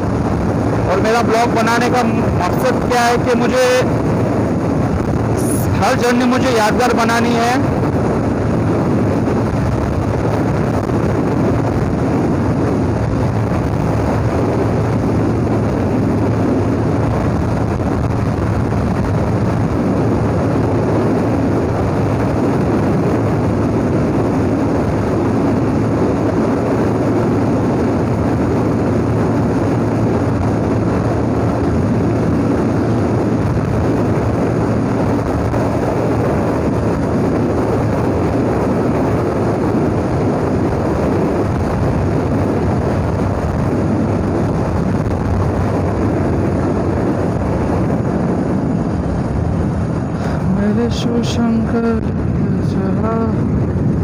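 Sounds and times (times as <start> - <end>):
motorcycle engine drone: 0.0 - 54.0
wind noise on microphone: 0.0 - 54.0.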